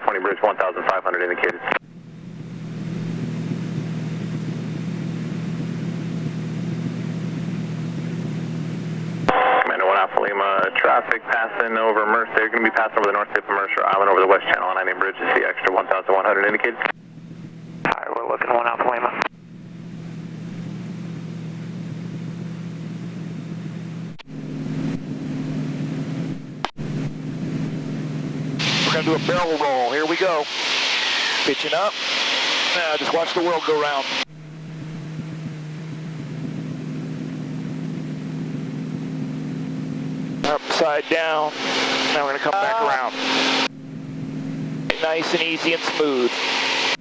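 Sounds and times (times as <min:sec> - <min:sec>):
airplane engine and propeller droning: 0:00.0 - 0:47.0.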